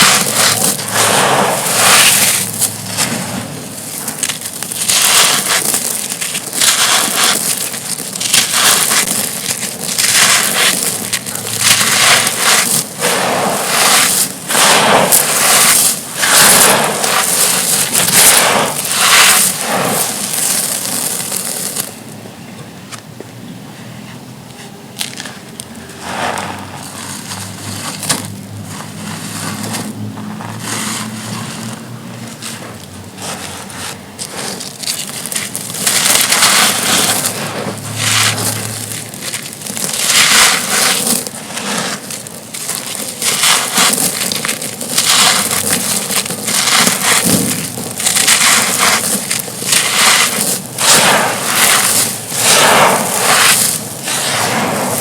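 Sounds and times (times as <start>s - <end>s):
dry stone slabs crunching: 0.0s - 22.2s, 25.0s - 55.0s.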